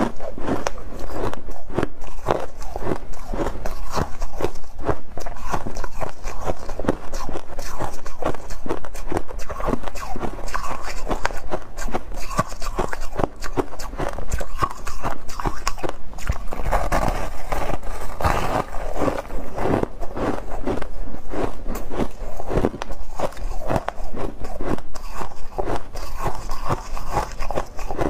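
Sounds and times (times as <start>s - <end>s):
chewing crunchy ice: 0.0s - 28.0s.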